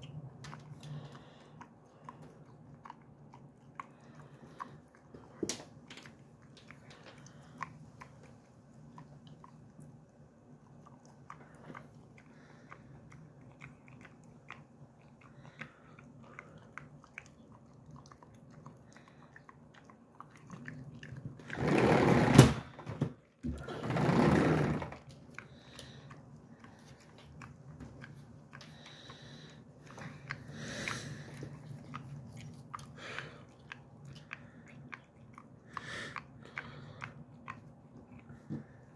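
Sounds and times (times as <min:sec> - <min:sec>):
dog chewing: 0:00.0 - 0:38.9.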